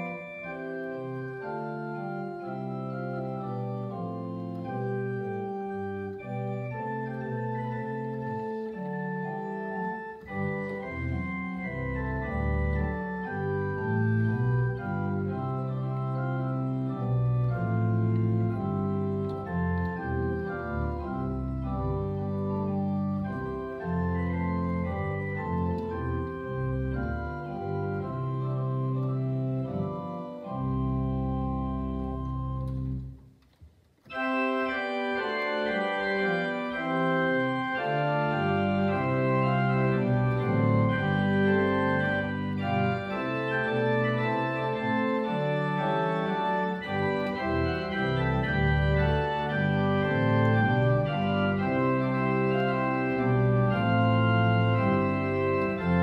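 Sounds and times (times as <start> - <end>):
church organ playing chords: 0.0 - 33.2, 34.0 - 56.0.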